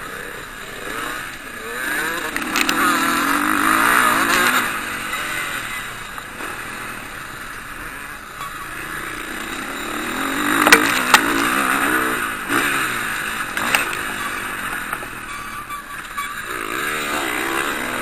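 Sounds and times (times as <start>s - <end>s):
motocross motorcycle engines revving: 0.0s - 18.0s.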